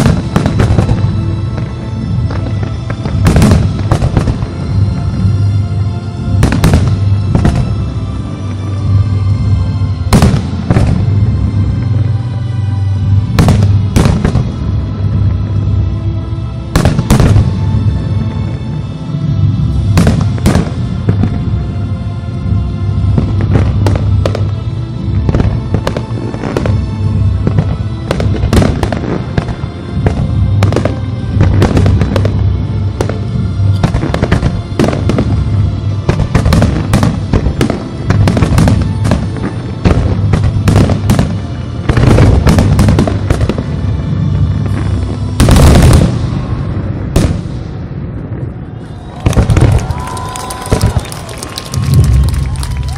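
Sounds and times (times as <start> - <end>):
fireworks bursting: 0.0 - 5.6, 6.3 - 8.0, 8.8 - 12.2, 13.1 - 15.3, 16.7 - 18.0, 19.6 - 21.5, 22.9 - 52.9
music: 0.0 - 52.9.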